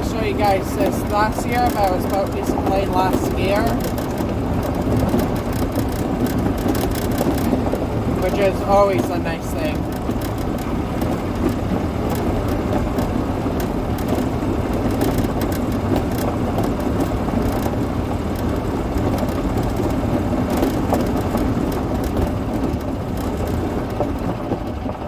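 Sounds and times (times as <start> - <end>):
golf cart driving: 0.0 - 25.0
light rattles: 0.0 - 25.0
road rumble: 0.0 - 25.0.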